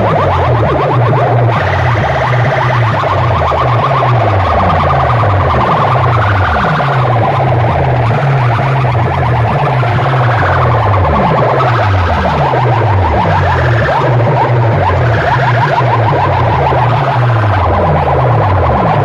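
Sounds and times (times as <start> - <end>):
loud electronic music: 0.0 - 19.0
siren-like alarm effects: 0.0 - 19.0
stepped bass line: 0.0 - 19.0.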